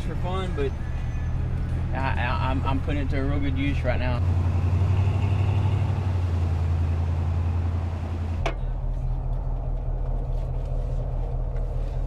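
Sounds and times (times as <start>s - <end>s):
engine and road drone inside cab: 0.0s - 12.0s
truck engine running: 0.0s - 12.0s.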